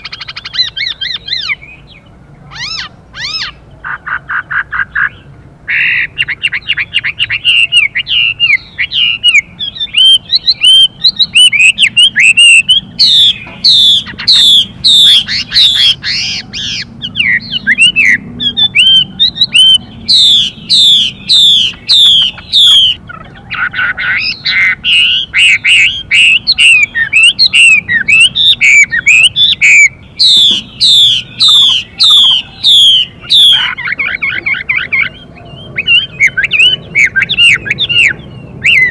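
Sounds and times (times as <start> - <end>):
songbird singing trills and whistles: 0.0 - 38.9.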